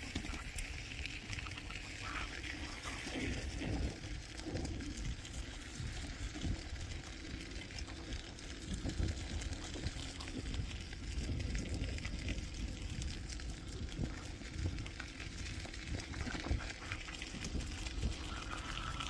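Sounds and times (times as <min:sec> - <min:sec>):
bicycle tyres rumbling on gravel: 0:00.0 - 0:19.0
crackles and rattles: 0:00.0 - 0:19.0
wind on microphone: 0:00.0 - 0:19.0.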